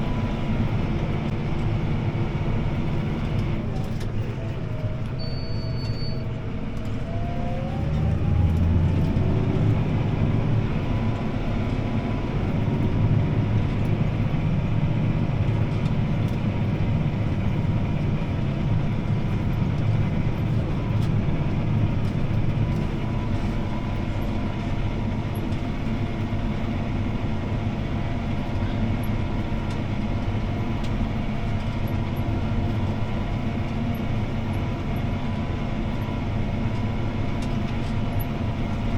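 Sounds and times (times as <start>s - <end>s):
tractor diesel engine: 0.0s - 38.9s.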